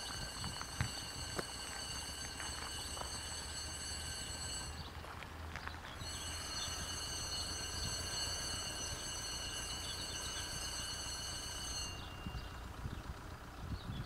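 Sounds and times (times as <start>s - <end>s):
high-pitched whine of thin tones: 0.0s - 5.2s, 5.9s - 13.0s
low hum: 0.0s - 14.0s.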